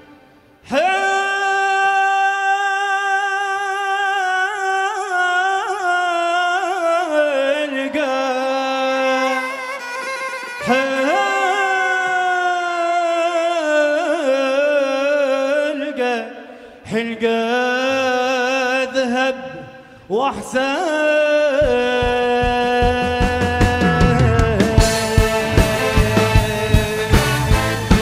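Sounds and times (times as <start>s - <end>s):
man singing melismatic vocal line: 0.6s - 28.0s.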